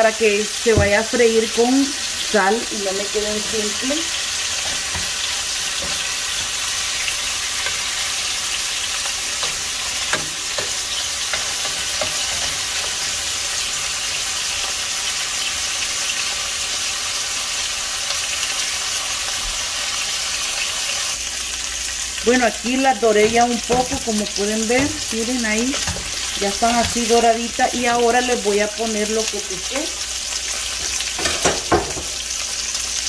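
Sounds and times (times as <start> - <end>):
meat sizzling in oil: 0.0 - 33.0.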